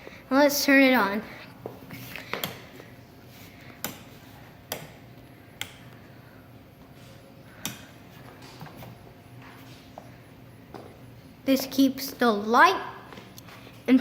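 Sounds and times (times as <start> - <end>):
ceiling fan faint hum: 0.0 - 14.0.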